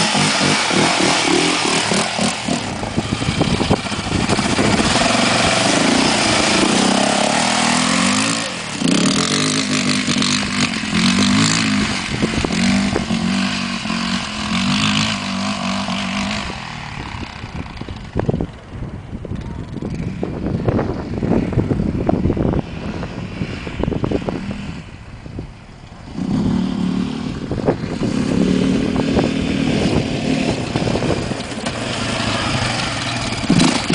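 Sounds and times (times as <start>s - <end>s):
quad engine running: 0.0s - 33.9s.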